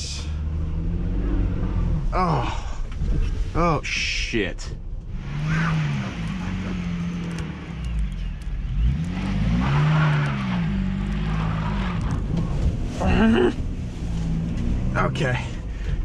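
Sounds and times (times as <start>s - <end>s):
van engine revving: 0.0s - 16.0s.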